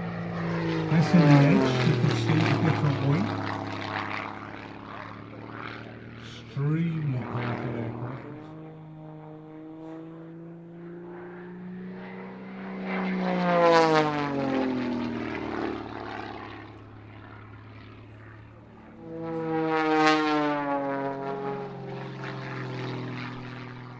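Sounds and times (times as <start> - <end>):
propeller plane engine passing by: 0.0 - 23.9.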